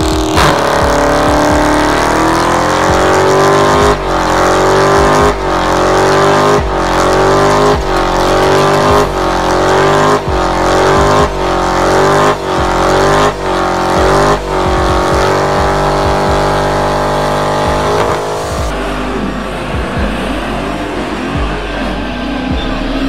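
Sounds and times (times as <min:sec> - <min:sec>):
car engine at high revs: 0:00.0 - 0:23.0.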